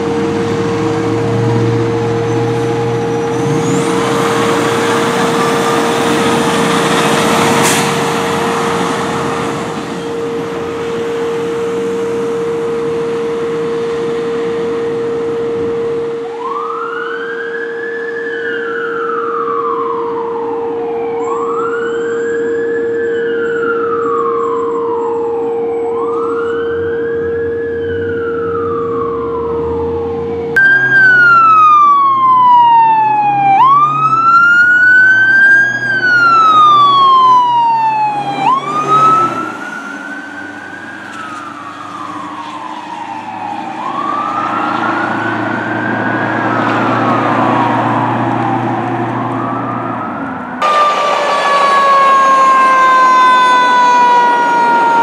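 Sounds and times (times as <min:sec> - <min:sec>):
electronic siren wailing: 0:00.0 - 0:55.0.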